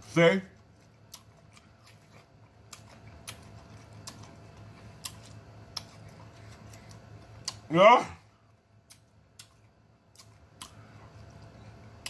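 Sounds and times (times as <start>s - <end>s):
wet chewing clicks and smacks: 0.6s - 7.7s, 8.8s - 12.0s.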